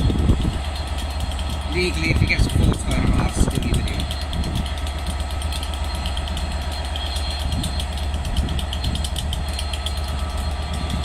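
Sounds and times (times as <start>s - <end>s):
locomotive machinery droning: 0.0s - 11.0s.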